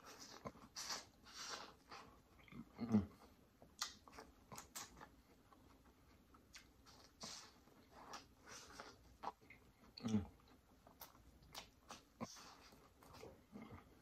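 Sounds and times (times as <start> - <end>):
chewing and wet mouth sounds: 0.0 - 14.0.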